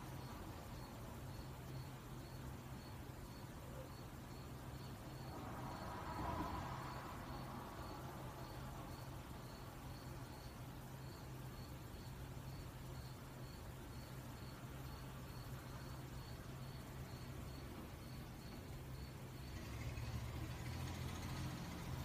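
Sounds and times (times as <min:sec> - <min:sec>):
cricket chirping faintly: 0:00.0 - 0:22.0.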